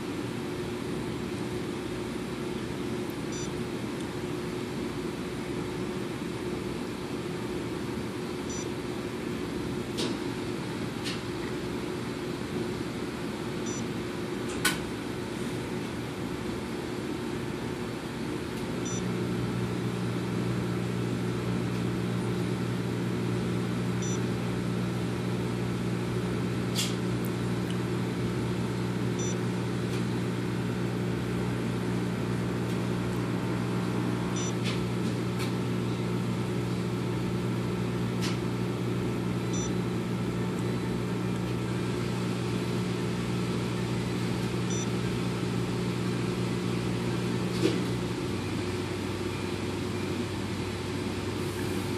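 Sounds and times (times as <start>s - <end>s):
low mechanical motor hum: 0.0s - 51.9s.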